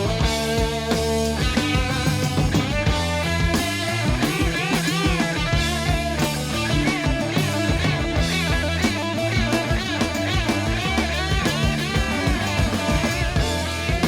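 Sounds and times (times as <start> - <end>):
bass: 0.0 - 14.0
distorted electric guitar lead: 0.0 - 14.0
drum kit: 0.0 - 14.0.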